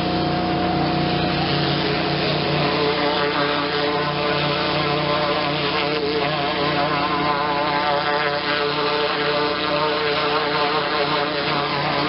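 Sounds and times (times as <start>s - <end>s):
pressure washer engine droning: 0.0s - 12.0s.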